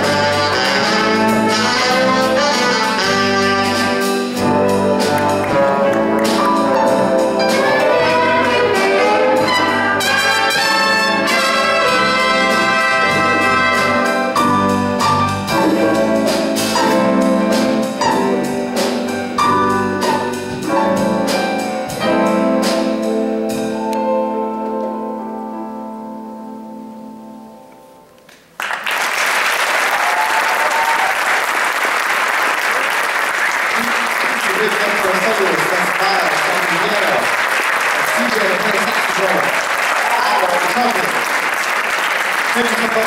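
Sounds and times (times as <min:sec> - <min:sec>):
big band jazz ensemble: 0:00.0 - 0:26.6, 0:30.0 - 0:43.0.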